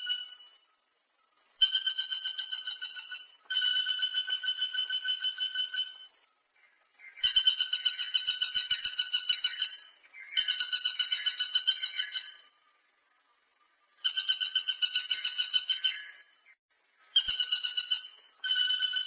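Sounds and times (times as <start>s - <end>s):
woodpecker calling: 0.0s - 19.0s.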